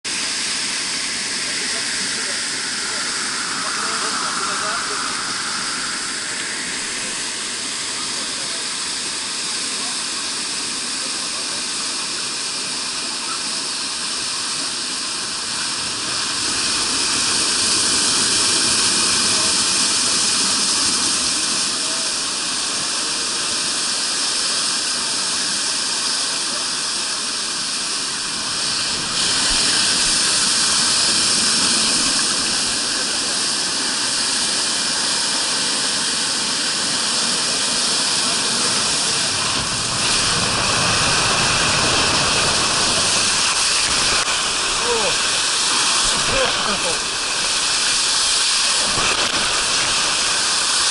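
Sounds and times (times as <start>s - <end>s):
water rushing down a slide: 0.1s - 50.9s.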